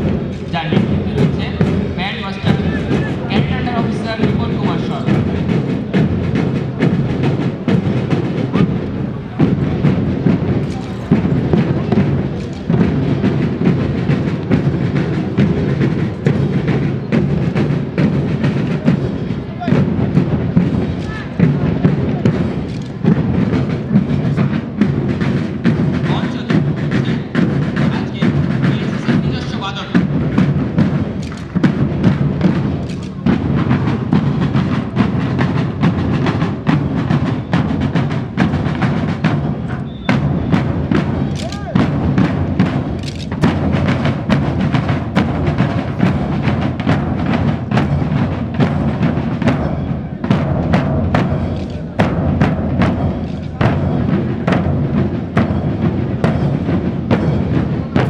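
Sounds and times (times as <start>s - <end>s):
drums beating: 0.0s - 58.0s
parade band music: 0.0s - 58.0s.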